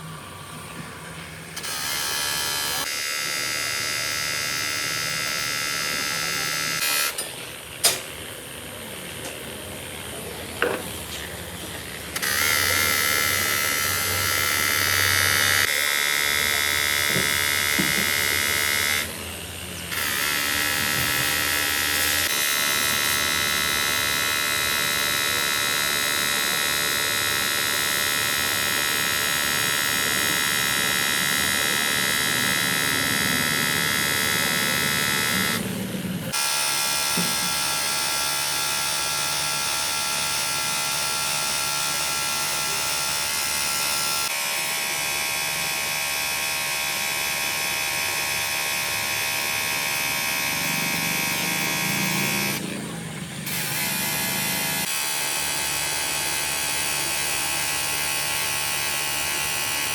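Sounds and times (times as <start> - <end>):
machinery motor whining: 0.0 - 59.9.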